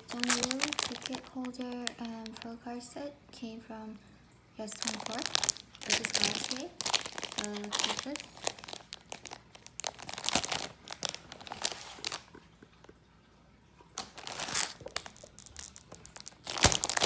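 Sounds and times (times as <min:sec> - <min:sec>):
plastic bag crinkling: 0:00.0 - 0:02.6, 0:04.6 - 0:13.0, 0:14.0 - 0:17.0.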